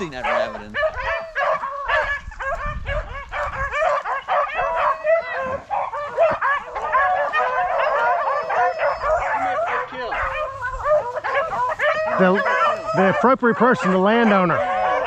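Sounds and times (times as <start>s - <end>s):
hounds yelping and baying: 0.0s - 15.0s.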